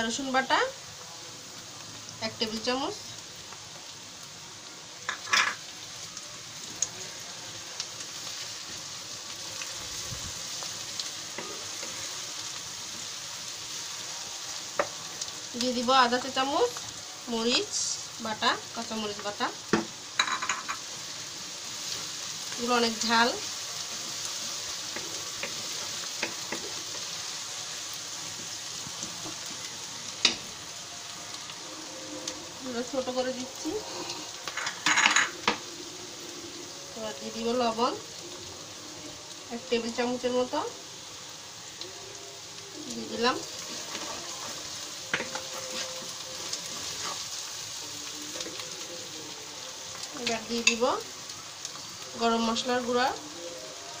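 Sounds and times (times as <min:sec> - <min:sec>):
onions sizzling in hot oil: 0:00.0 - 0:54.0.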